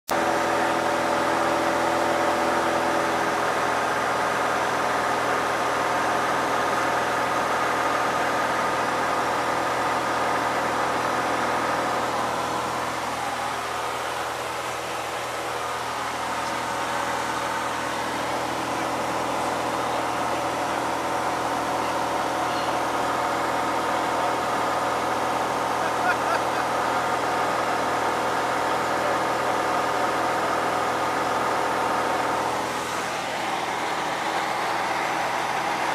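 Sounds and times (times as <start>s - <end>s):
light aircraft engine and propeller: 0.1s - 35.9s.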